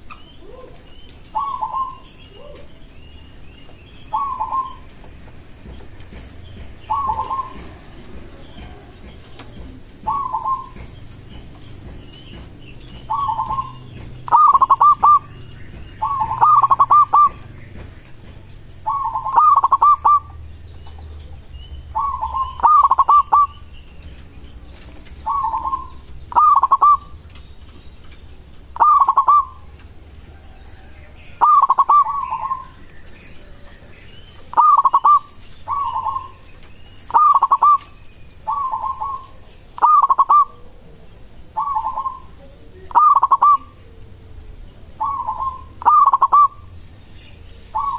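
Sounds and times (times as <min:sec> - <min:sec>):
dove cooing: 0:00.0 - 0:03.3, 0:03.9 - 0:24.1, 0:24.7 - 0:27.4, 0:28.6 - 0:46.8, 0:47.6 - 0:47.9.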